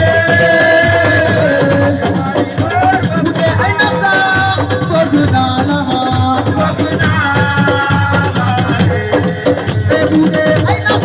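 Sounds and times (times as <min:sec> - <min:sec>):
band music with fast percussion: 0:00.0 - 0:11.0.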